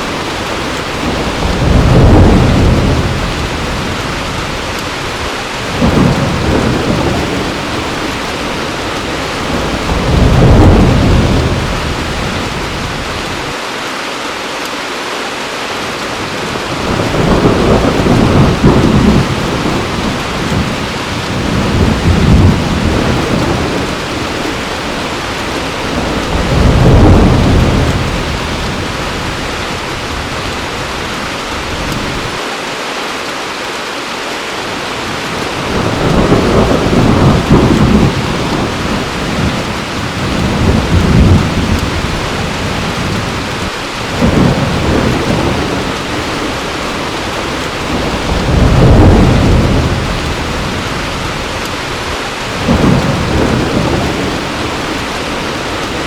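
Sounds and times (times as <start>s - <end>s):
thunder rumbling: 0.0s - 13.6s, 16.2s - 32.4s, 35.0s - 56.0s
heavy rain pouring: 0.0s - 56.0s.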